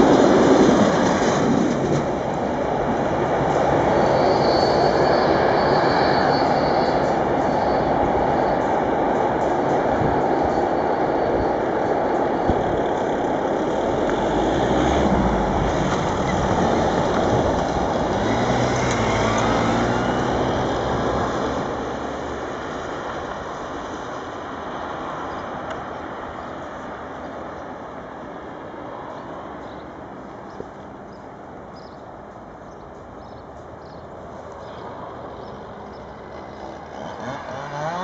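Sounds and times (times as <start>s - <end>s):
freight train wheels on track: 0.0s - 38.0s.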